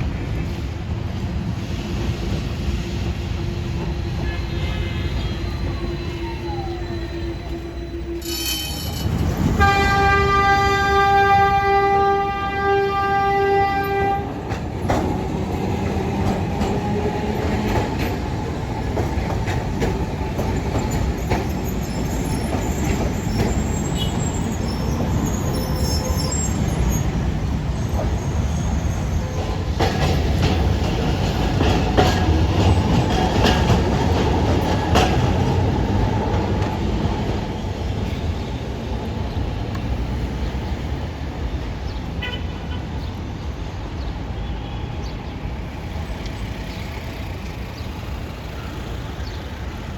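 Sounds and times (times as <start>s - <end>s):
tram running on rails: 0.0s - 49.9s.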